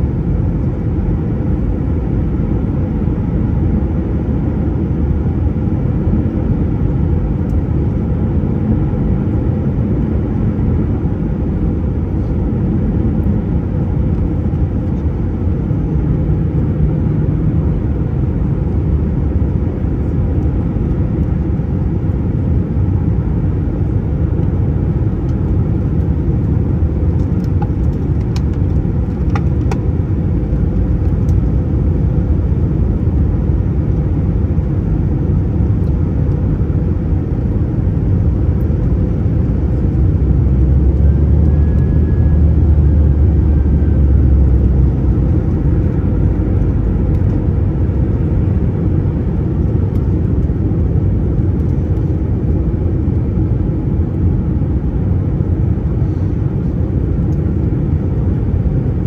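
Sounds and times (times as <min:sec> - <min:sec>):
jet engine rumble in cabin: 0:00.0 - 0:59.0.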